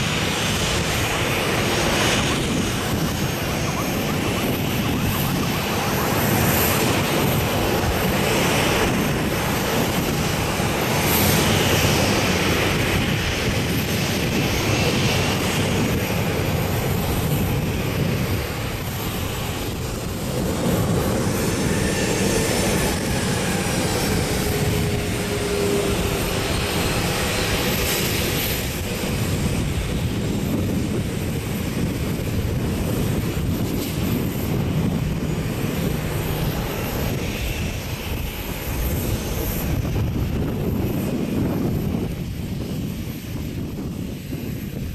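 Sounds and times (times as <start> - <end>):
aircraft jet whine: 0.0 - 44.9.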